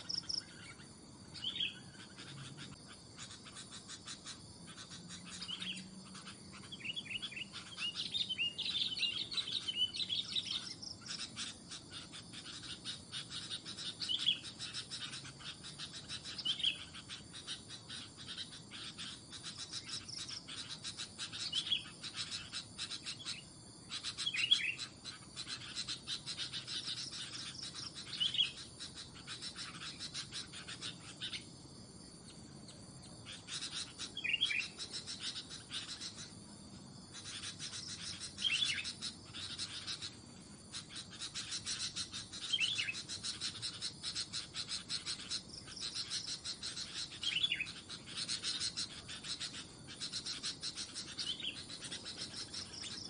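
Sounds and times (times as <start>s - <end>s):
bird chirping calls: 0.0s - 53.0s
insects chirping: 0.0s - 53.0s.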